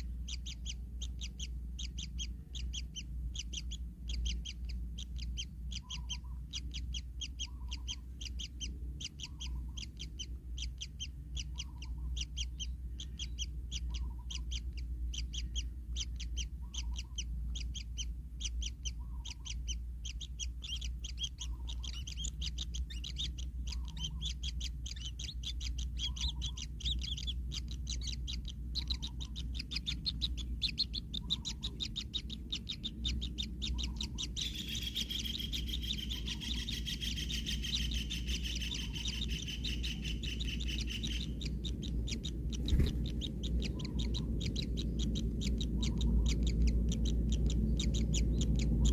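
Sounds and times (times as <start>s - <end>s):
bird chicks chirping: 0.0s - 48.9s.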